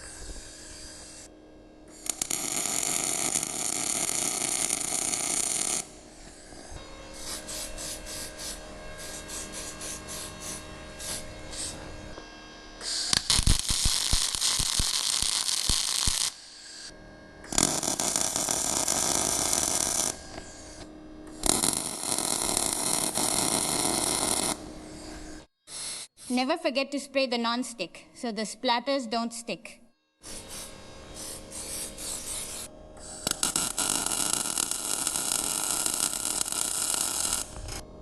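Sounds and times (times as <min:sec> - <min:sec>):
arc welding crackling hiss: 0:00.0 - 0:11.9, 0:12.8 - 0:26.4, 0:30.2 - 0:37.9.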